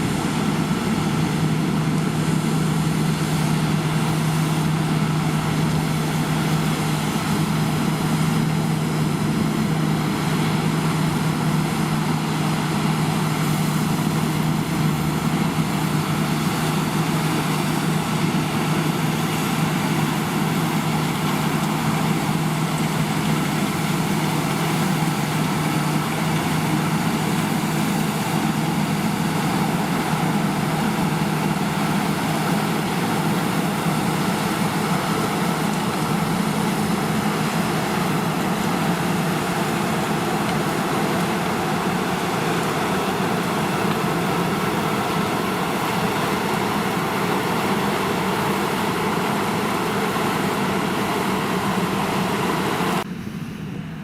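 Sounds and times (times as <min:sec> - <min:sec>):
farm machinery diesel engine: 0:00.0 - 0:54.0.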